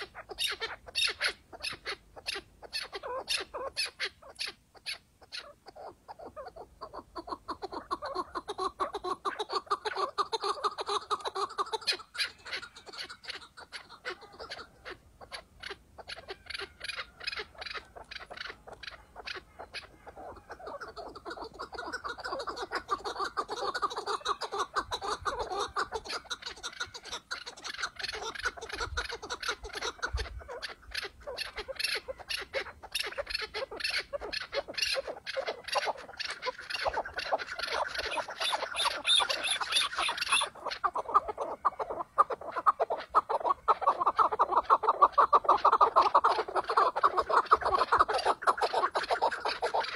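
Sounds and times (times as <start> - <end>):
partridge clucking calls: 0.0 - 49.9.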